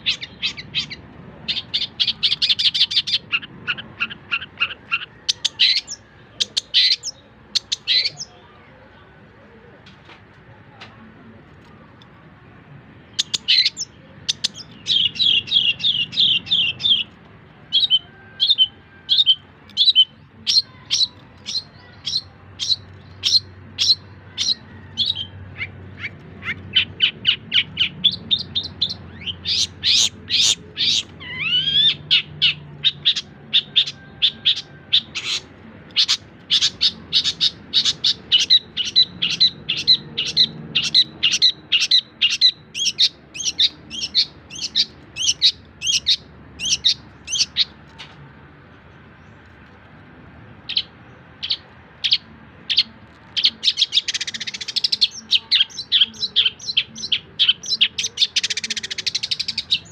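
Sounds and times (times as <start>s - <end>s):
shrike singing: 0.0s - 8.9s, 11.9s - 47.9s, 50.5s - 59.9s.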